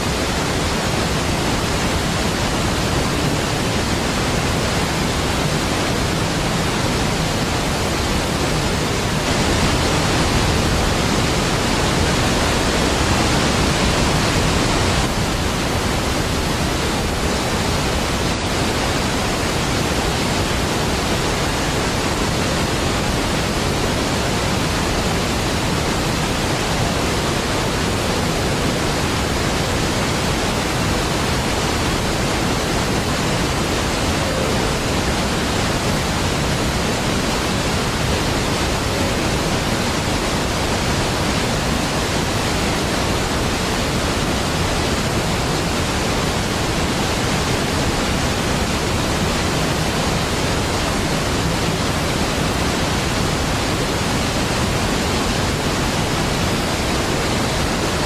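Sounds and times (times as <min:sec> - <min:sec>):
large waterfall pouring: 0:00.0 - 0:58.0.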